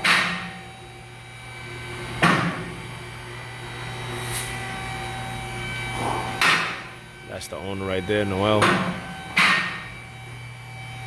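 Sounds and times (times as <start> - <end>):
low workshop hum: 0.0 - 11.0.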